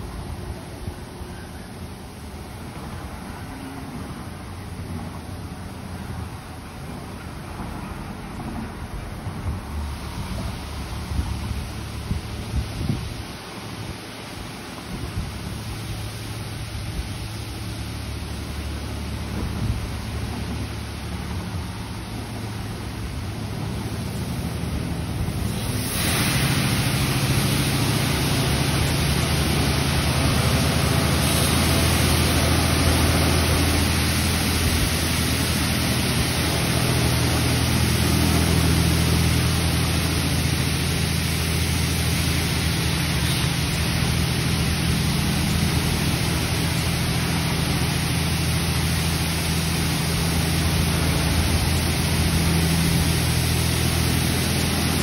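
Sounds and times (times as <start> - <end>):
low steady hum: 0.0 - 55.0
high-pressure water spray: 8.2 - 55.0.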